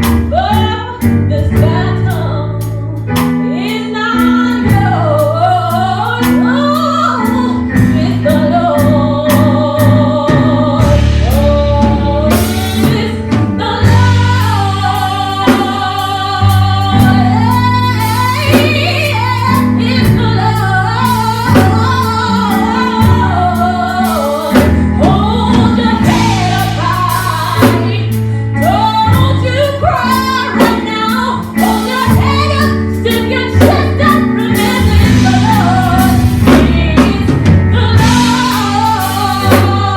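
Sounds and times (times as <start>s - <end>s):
bass: 0.0s - 39.9s
drums: 0.0s - 39.9s
keyboard: 0.0s - 39.9s
lead singer: 0.0s - 39.9s.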